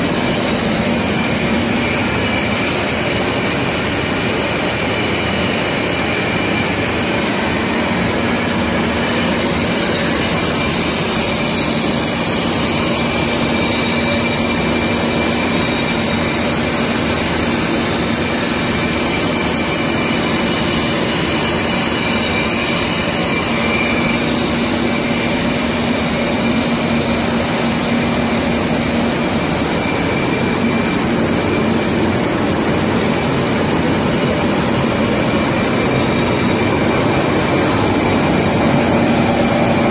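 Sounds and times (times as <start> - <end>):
high machine whines: 0.0 - 39.9
lathe cutting metal: 0.0 - 39.9.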